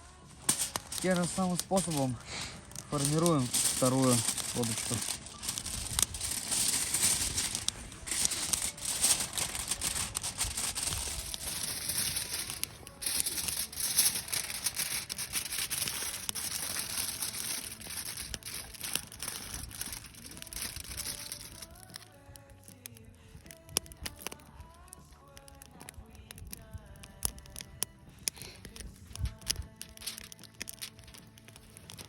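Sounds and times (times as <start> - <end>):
wrapping crinkling and crumpling: 0.0 - 32.0.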